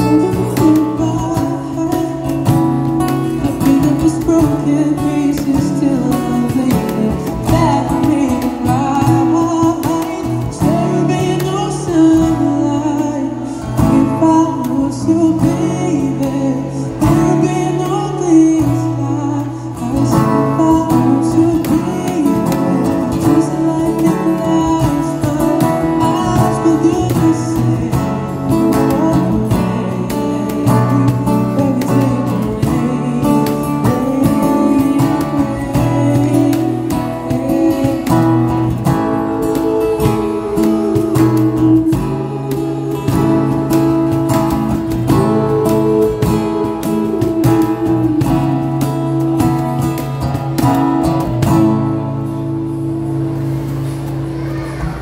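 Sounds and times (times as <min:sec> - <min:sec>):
man singing into a microphone: 0:00.0 - 0:51.3
acoustic guitar strumming: 0:00.0 - 0:55.0.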